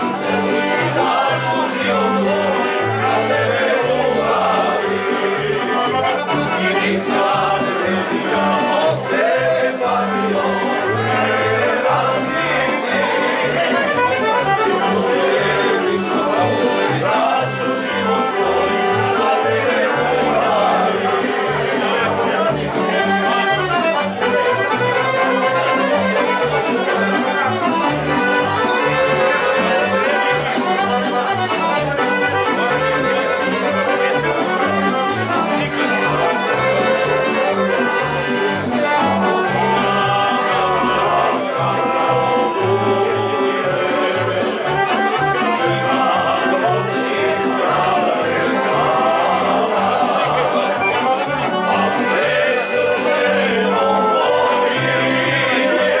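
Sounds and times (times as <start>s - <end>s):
piano accordion: 0.0s - 56.0s
violin: 0.0s - 56.0s.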